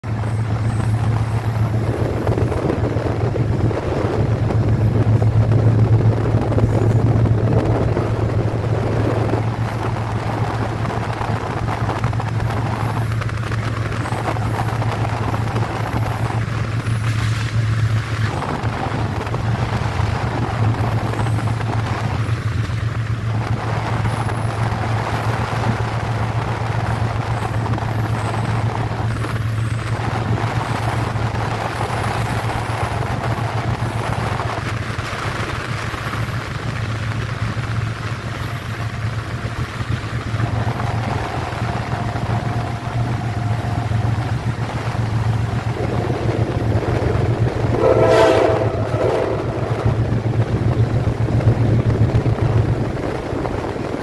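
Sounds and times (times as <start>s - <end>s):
train drone: 0.0s - 54.0s
wheels rumbling on rails: 0.0s - 54.0s.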